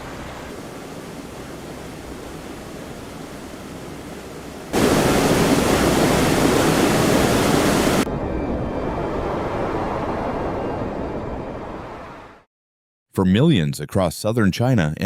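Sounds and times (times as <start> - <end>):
wind and rain rushing: 0.0 - 12.5.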